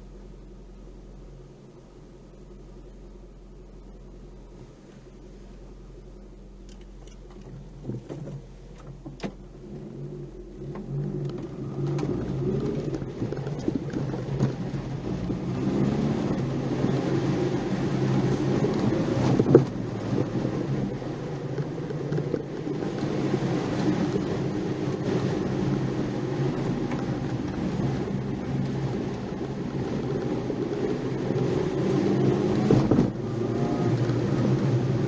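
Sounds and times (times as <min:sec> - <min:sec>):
car engine heard from cabin: 0:00.0 - 0:35.0
road noise: 0:00.0 - 0:35.0.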